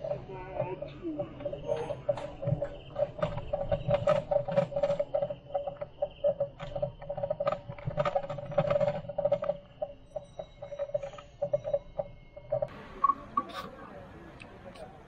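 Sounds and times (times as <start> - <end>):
bicycle clicking and rattling: 0.0 - 12.8.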